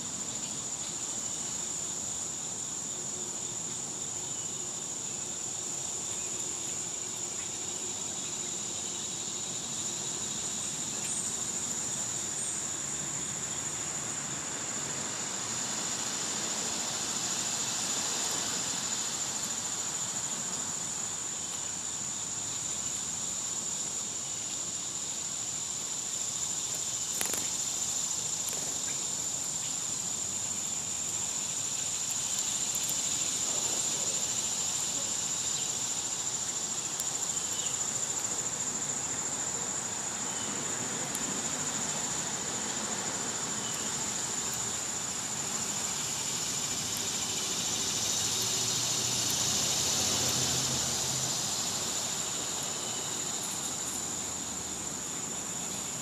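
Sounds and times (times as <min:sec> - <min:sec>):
insect chorus: 0:00.0 - 0:56.0.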